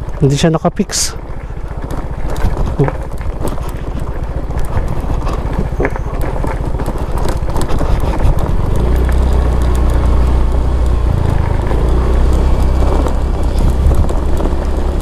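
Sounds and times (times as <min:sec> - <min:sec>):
motorcycle engine running: 0:00.0 - 0:15.0
stones crunching under tyres: 0:00.0 - 0:15.0.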